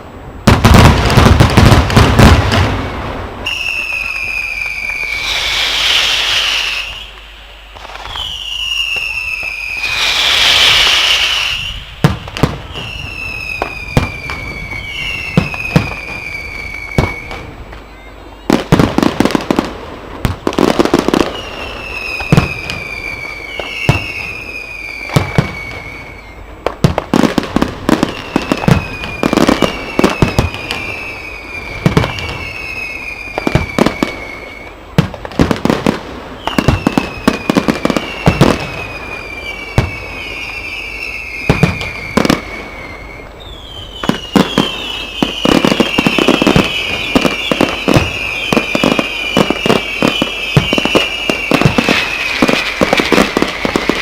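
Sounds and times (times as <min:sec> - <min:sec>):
firework bangs and cracks: 0:00.0 - 0:54.0
whistling firework shells: 0:00.5 - 0:54.0.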